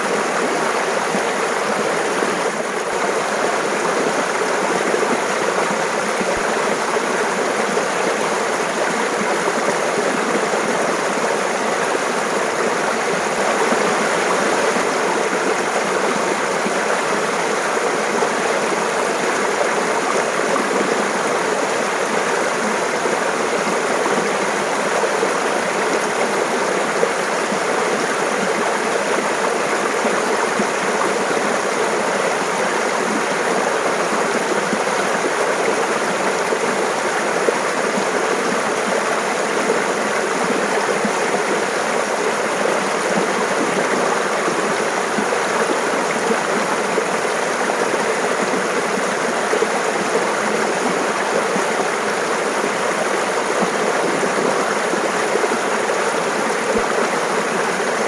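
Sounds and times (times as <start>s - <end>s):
mountain stream babbling: 0.0s - 58.0s.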